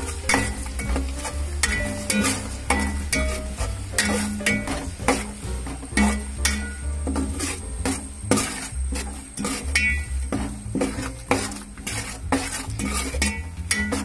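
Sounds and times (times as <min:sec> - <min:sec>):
food frying in oil: 0:00.0 - 0:14.0
steel spoon scraping a pan: 0:00.0 - 0:14.0.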